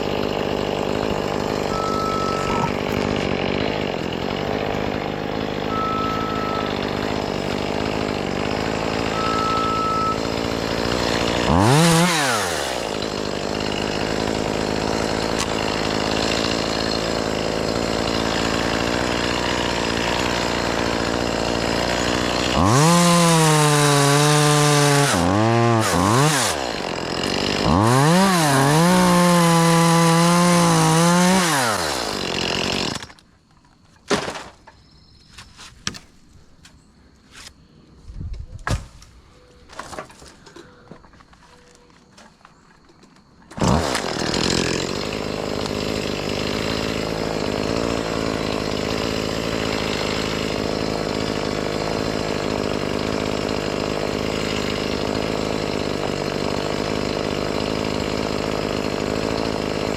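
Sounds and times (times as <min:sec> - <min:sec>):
chainsaw idling and revving: 0:00.0 - 0:33.2, 0:43.2 - 0:59.9.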